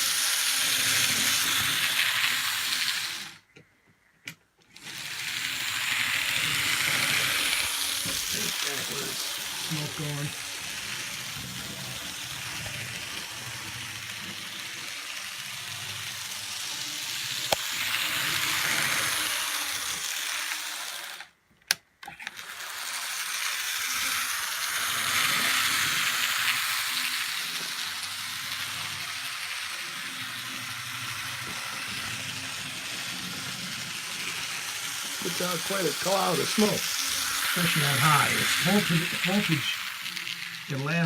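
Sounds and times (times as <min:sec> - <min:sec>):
model train hissing rattle: 0:00.0 - 0:03.4, 0:04.8 - 0:21.3, 0:22.2 - 0:41.0.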